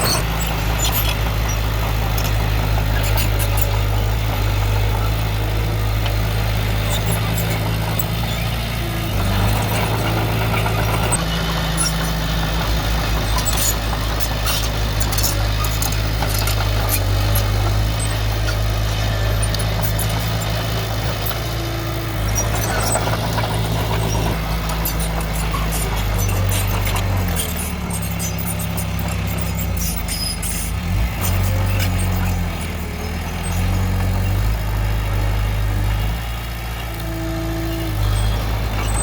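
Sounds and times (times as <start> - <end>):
heavy diesel engine running: 0.0 - 39.0.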